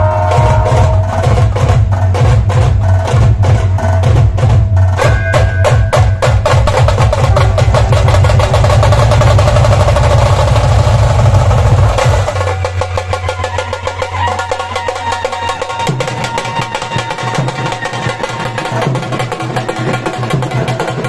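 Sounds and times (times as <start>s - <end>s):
deep drum beats: 0.0s - 21.0s
rapid rolling drum strokes: 0.0s - 21.0s.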